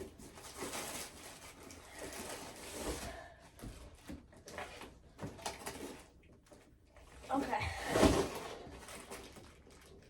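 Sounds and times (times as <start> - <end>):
packaging rustling and scraping: 0.0 - 6.2, 7.8 - 10.0.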